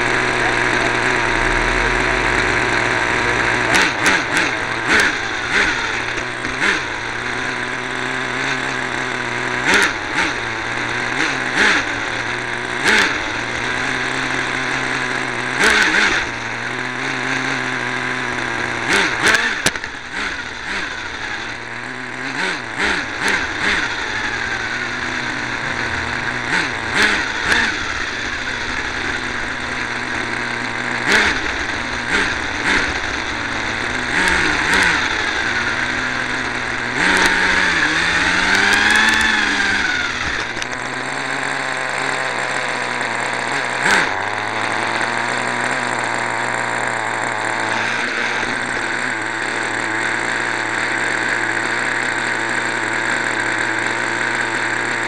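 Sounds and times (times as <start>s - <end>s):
small nitro engine buzzing and revving: 0.0s - 55.0s.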